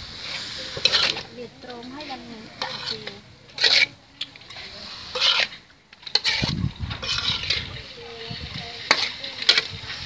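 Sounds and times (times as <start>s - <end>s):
metal spatula scraping a wok: 0.0s - 10.0s.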